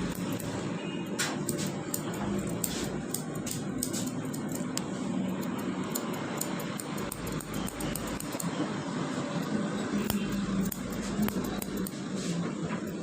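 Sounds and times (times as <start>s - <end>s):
scissors snipping hair: 0.0s - 8.5s, 9.4s - 13.0s.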